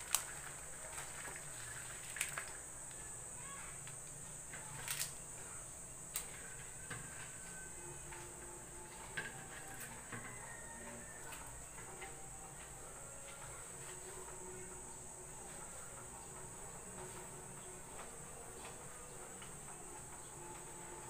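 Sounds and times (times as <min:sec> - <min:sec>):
faint high-pitched hiss: 0:00.0 - 0:21.0.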